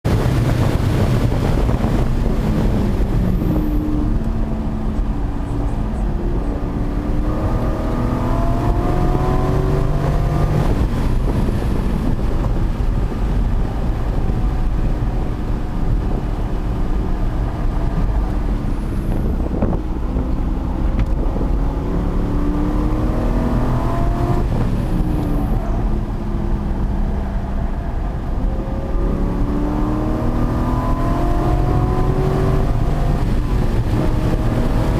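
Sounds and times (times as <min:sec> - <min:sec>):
road and wind noise: 0:00.0 - 0:34.9
car engine accelerating: 0:00.1 - 0:34.9.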